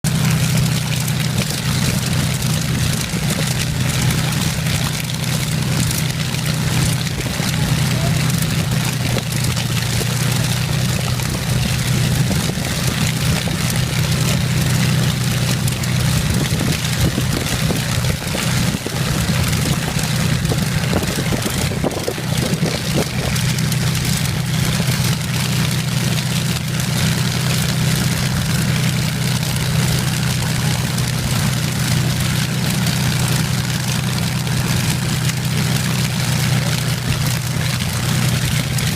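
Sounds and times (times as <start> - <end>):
aircraft engine droning: 0.0 - 38.9.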